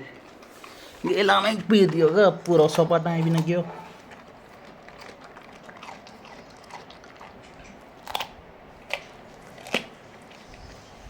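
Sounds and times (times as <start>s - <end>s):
dog chewing and crunching food: 0.0s - 11.0s.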